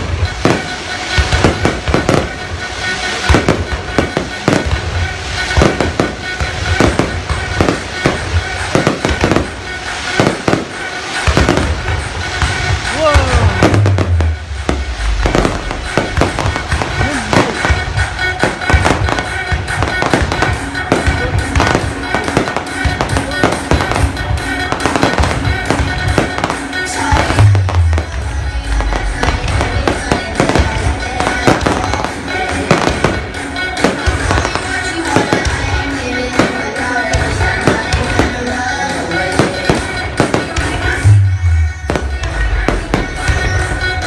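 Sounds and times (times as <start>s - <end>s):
fireworks bangs and crackles: 0.0s - 44.0s
music: 0.0s - 44.0s.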